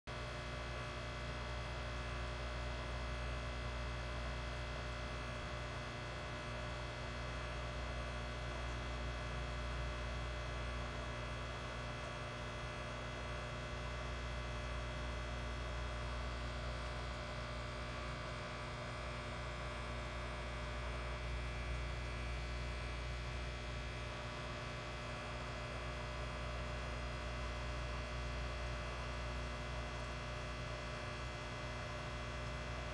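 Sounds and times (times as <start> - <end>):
aquarium equipment humming: 0.2 - 32.9.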